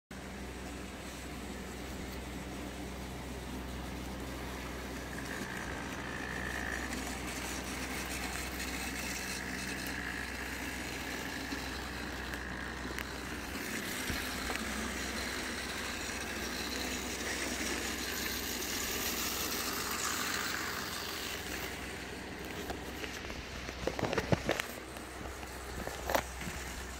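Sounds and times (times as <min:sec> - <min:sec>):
model train motor whirring: 0:00.2 - 0:26.9.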